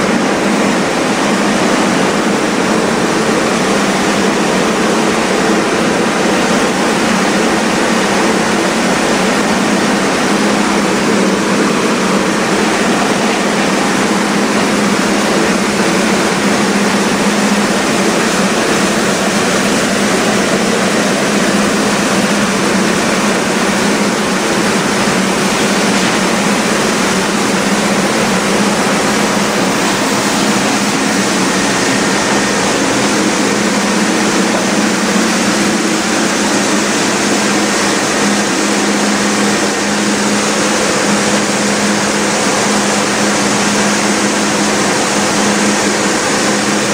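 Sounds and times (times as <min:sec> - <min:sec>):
sorting machine humming: 0:00.0 - 0:46.9.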